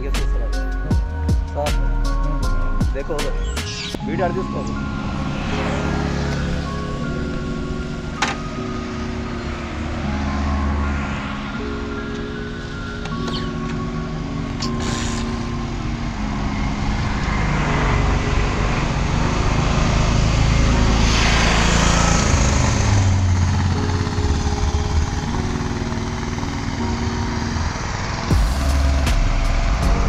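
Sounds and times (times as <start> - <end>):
background music with held low notes: 0.0 - 30.0
steady rushing noise: 4.8 - 30.0.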